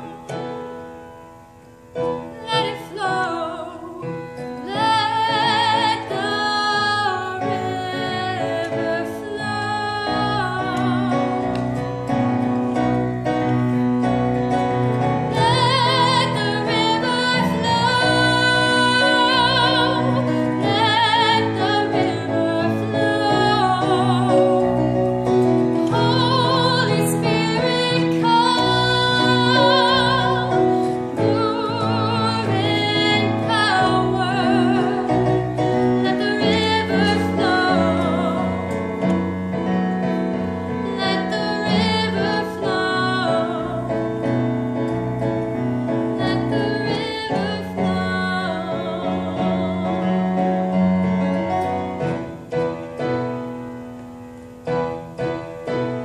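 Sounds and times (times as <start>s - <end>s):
piano accompaniment: 0.0s - 56.0s
woman singing with vibrato: 2.1s - 11.8s, 13.4s - 44.8s, 45.9s - 51.0s.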